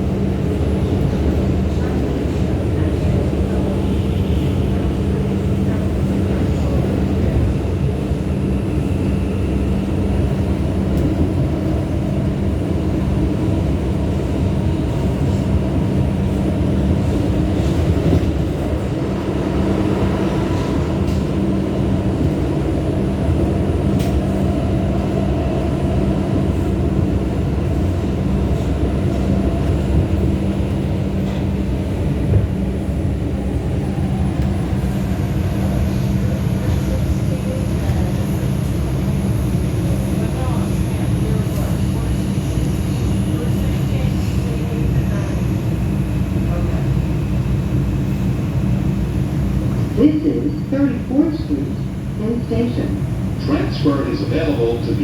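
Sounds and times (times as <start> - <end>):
subway train rumbling: 0.0 - 55.0.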